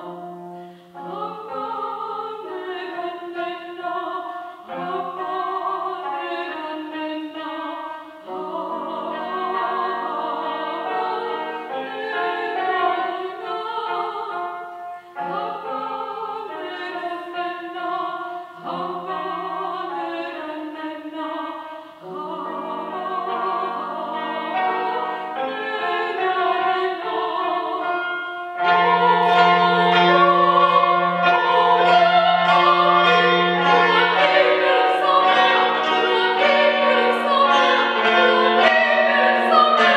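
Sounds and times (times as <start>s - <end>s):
woman singing: 1.0s - 39.9s.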